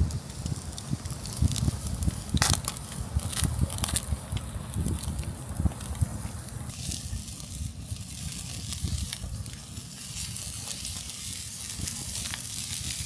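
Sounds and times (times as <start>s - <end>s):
chicken sizzling on campfire: 0.0s - 13.0s
fire crackles: 0.0s - 13.0s
low rumble: 0.0s - 13.0s.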